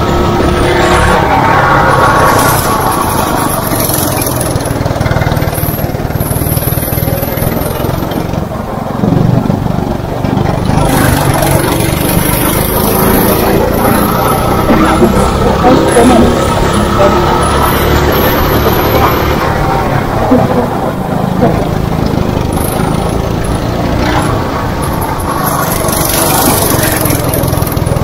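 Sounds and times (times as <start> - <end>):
go-kart engine running hard: 0.0 - 28.0.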